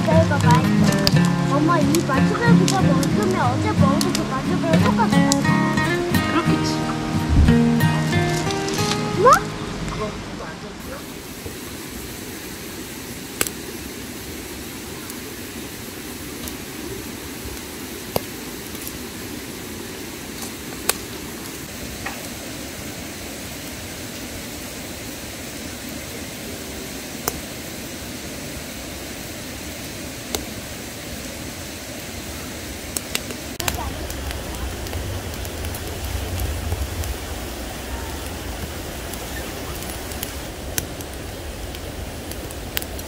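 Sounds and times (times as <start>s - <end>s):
campfire crackling and popping: 0.0s - 43.0s
fire rushing hiss: 0.0s - 43.0s.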